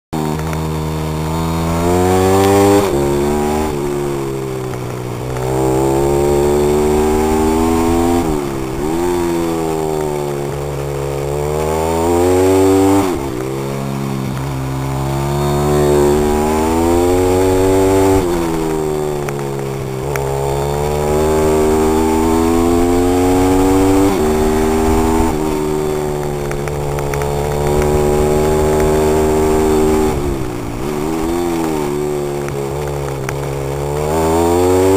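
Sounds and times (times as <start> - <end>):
pit bike engine revving: 0.2 - 34.9.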